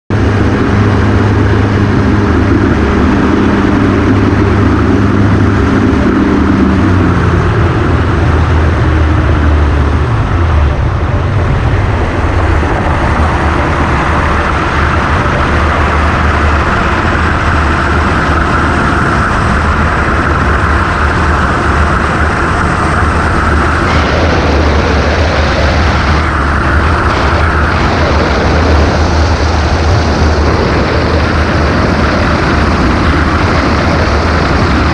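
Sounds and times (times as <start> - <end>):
light aircraft engine running: 0.1 - 34.9
wind rush on microphone: 0.1 - 34.9.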